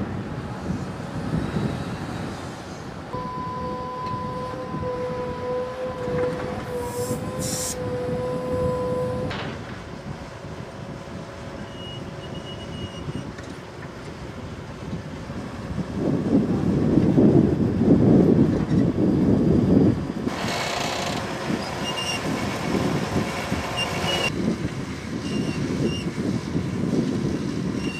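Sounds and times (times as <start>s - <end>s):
bulldozer engine pushing dirt: 0.0s - 27.9s
excavator digging with whine: 0.0s - 27.9s.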